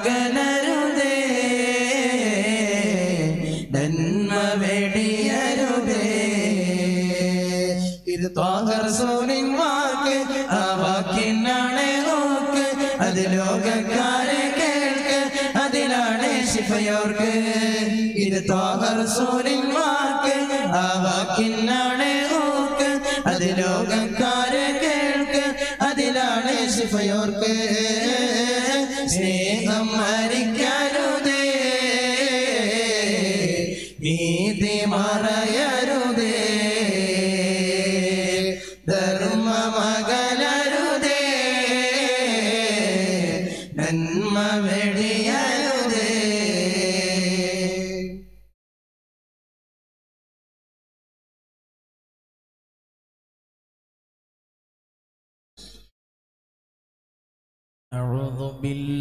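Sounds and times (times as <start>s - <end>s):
person singing devotional song: 0.0s - 48.4s, 57.9s - 59.0s.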